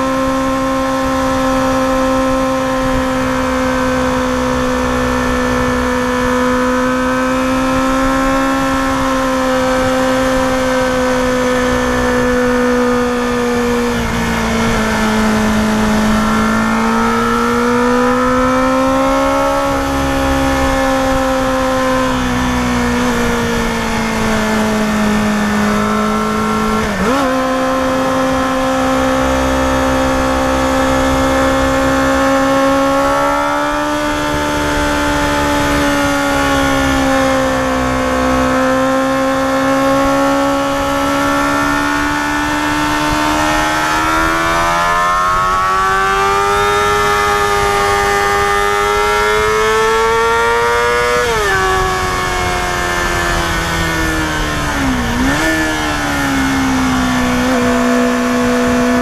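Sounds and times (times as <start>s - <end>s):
motorcycle engine revving high: 0.0s - 59.0s
wind rush: 0.0s - 59.0s.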